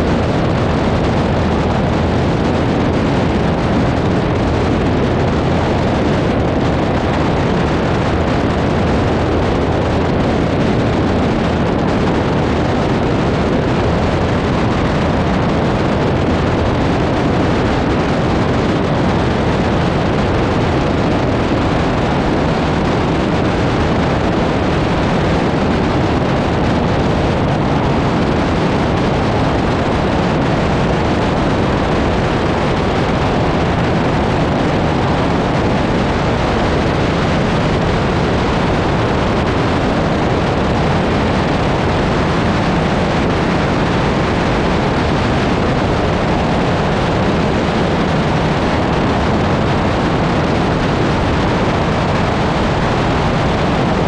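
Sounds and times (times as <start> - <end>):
light plane engine drone: 0.0 - 54.0
wind rushing over microphone: 0.0 - 54.0.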